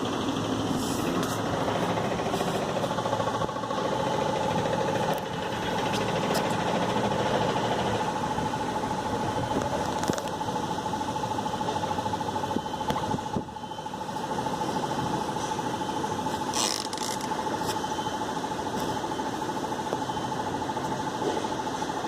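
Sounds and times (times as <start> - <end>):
machine whining: 0.0 - 22.0.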